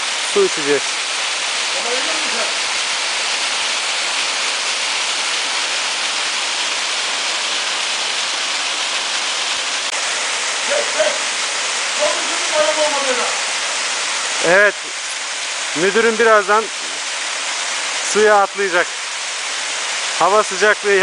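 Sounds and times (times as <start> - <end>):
waterfall pouring over rocks: 0.0 - 21.0.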